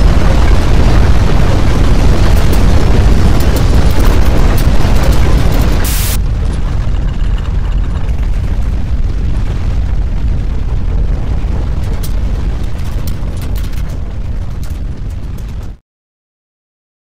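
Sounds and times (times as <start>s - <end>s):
crackles: 0.0s - 15.8s
deep rumble of landslide: 0.0s - 15.8s.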